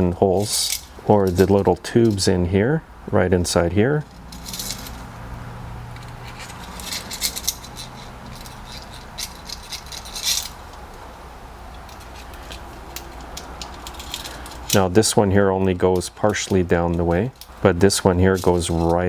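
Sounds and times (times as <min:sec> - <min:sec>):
metallic clinks and scrapes: 0:00.0 - 0:02.4, 0:04.0 - 0:19.0
steady low hum: 0:00.0 - 0:19.0.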